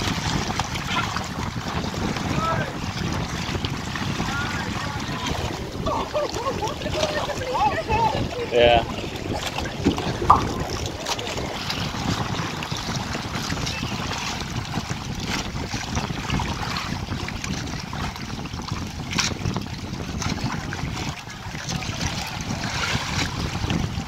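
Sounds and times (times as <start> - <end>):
sea water sloshing and splashing: 0.0 - 24.0
wind buffeting microphone: 0.0 - 24.0.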